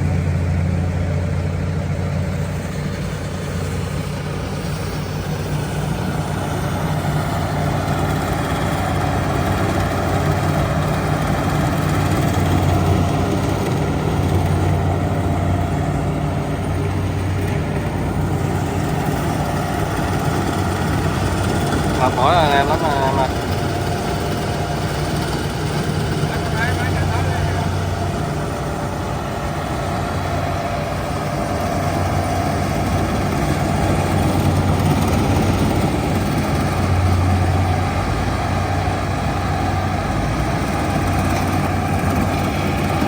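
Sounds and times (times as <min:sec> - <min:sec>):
diesel engine under load: 0:00.0 - 0:43.0.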